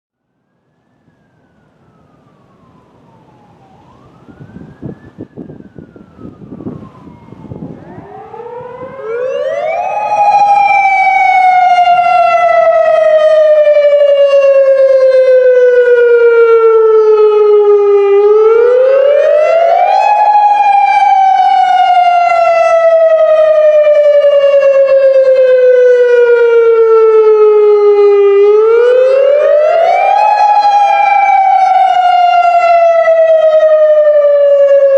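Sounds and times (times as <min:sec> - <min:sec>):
warning siren wailing: 0:00.2 - 0:34.9.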